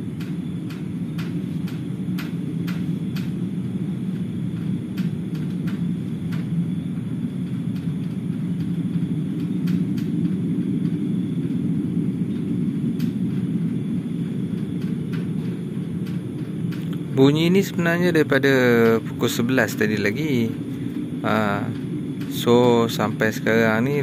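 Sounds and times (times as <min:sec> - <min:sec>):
low rumbling drone: 0:00.0 - 0:24.0.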